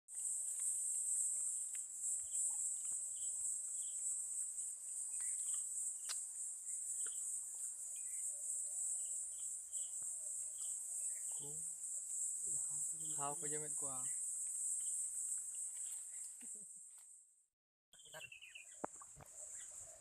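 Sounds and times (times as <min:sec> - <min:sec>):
insect chorus drone: 0:00.1 - 0:17.2, 0:18.0 - 0:20.0.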